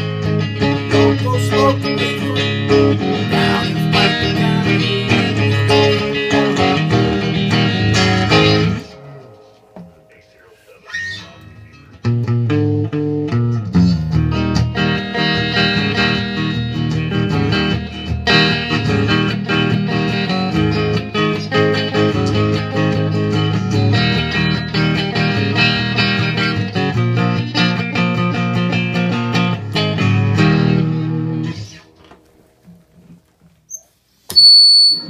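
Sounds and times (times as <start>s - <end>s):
electric guitar notes: 0.0s - 33.5s.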